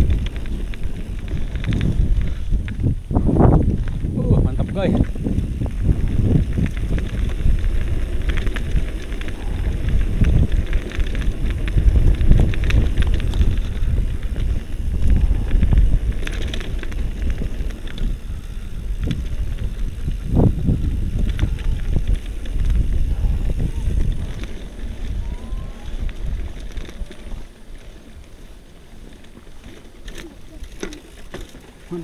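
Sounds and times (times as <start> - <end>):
bike frame and chain rattling: 0.0 - 32.0
wind buffeting microphone: 0.0 - 32.0.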